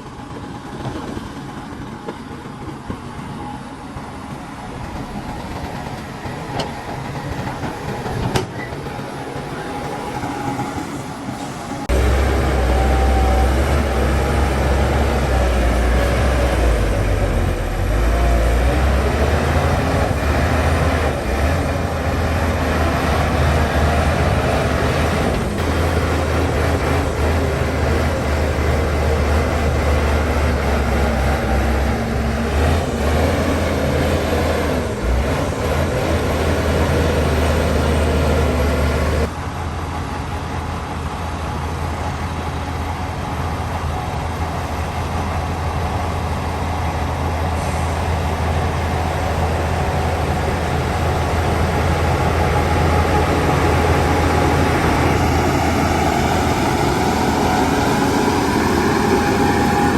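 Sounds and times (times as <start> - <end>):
diesel engine droning: 4.4 - 59.9.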